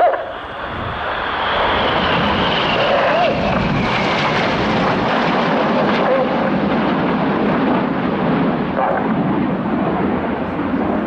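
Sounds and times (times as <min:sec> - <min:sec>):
jet engine roar with whine: 0:00.0 - 0:11.0.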